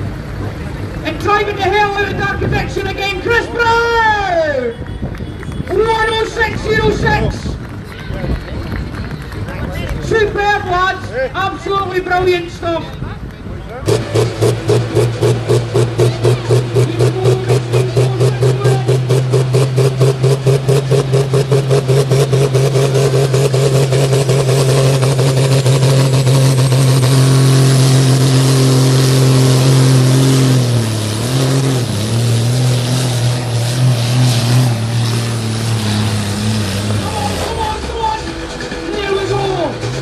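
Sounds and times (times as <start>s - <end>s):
pulling tractor engine: 0.0s - 40.0s.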